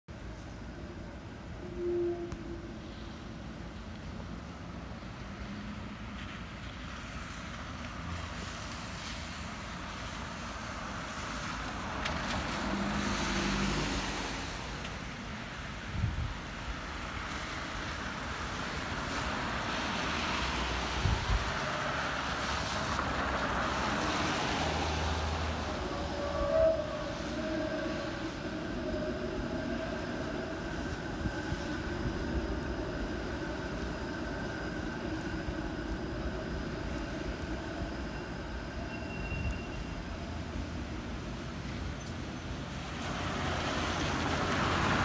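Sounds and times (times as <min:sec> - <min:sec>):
tyres hissing on wet pavement: 0:02.6 - 0:45.0.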